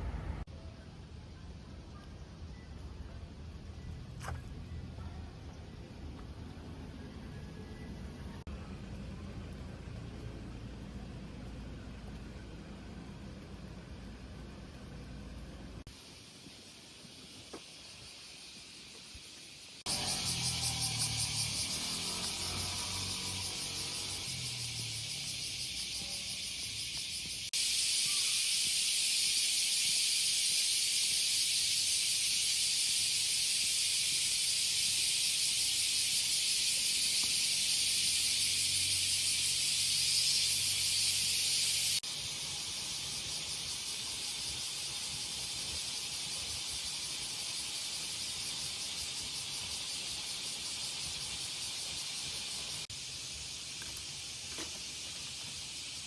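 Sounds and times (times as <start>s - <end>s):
cicadas buzzing: 11.0s - 56.0s.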